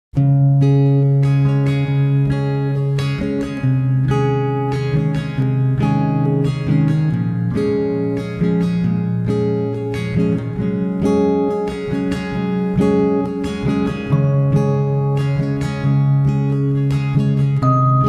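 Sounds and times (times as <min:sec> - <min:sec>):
acoustic guitar strumming chords: 0:00.2 - 0:18.0.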